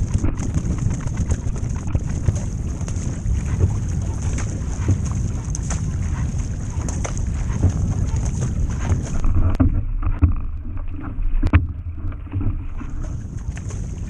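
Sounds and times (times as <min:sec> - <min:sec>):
paddle stroke splashes: 0:00.0 - 0:14.0
water rushing along a boat hull: 0:00.0 - 0:14.0
wind buffeting microphone: 0:00.0 - 0:14.0.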